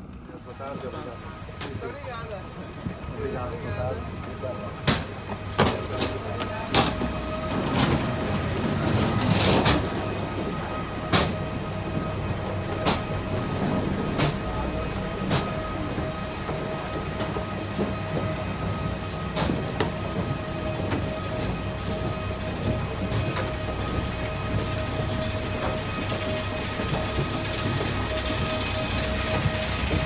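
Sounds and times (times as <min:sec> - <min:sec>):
footsteps on stairway steps: 0:04.2 - 0:30.0.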